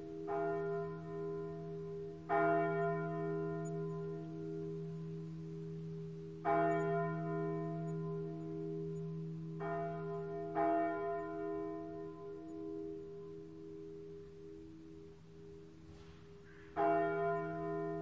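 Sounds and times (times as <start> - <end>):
church bell ringing: 0.0 - 18.0.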